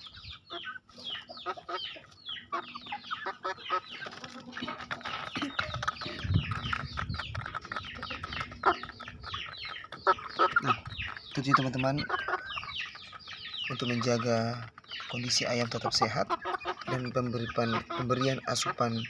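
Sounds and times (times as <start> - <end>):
chicks cheeping: 0.0 - 19.0.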